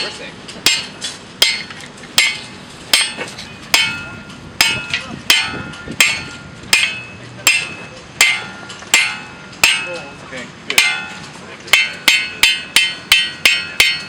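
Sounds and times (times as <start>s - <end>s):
hammer striking metal on anvil: 0.0s - 14.0s.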